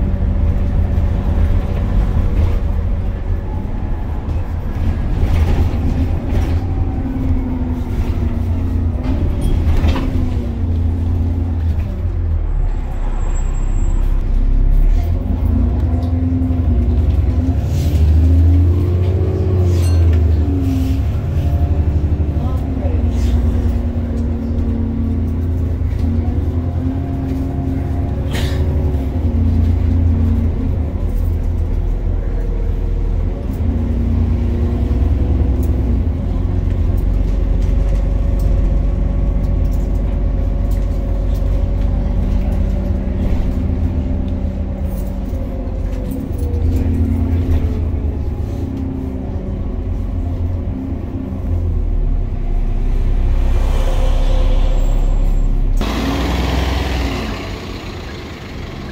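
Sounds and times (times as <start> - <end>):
bus engine drone: 0.0 - 58.9.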